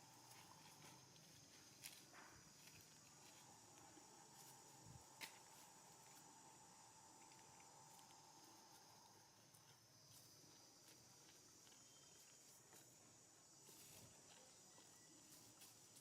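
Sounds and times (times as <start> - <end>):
steady high hiss: 0.0 - 14.4.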